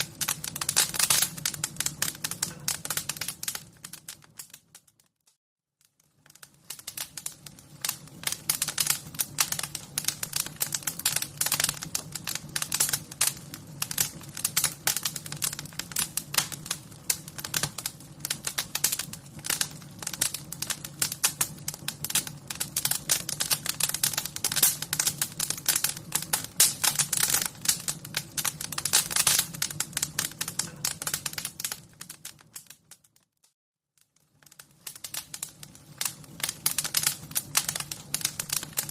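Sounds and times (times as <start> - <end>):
wood fire crackling: 0.0 - 5.1, 5.8 - 33.3, 34.0 - 38.9.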